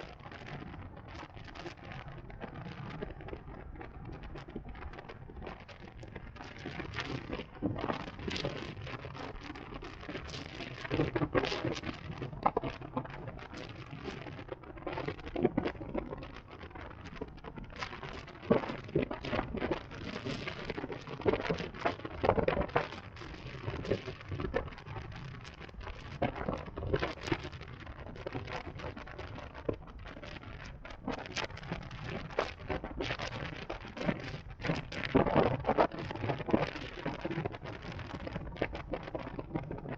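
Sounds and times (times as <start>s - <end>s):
wind crackling on microphone: 0.0s - 39.9s.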